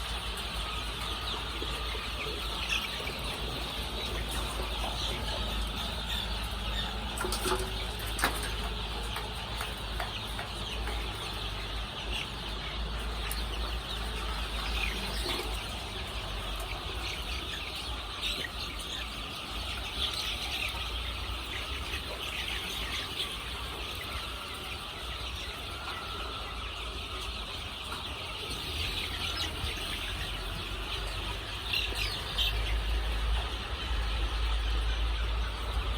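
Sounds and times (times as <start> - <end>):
chickens chirping and clucking: 0.0 - 35.9.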